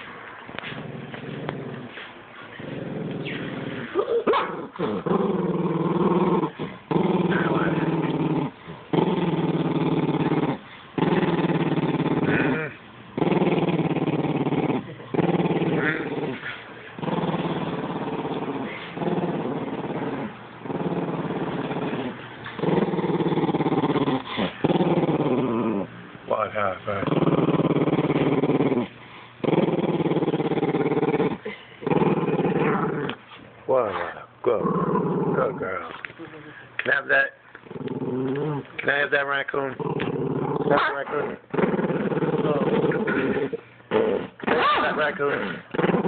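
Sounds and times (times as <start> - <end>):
dog growling: 0.0 - 26.0, 26.9 - 36.1, 37.6 - 46.0.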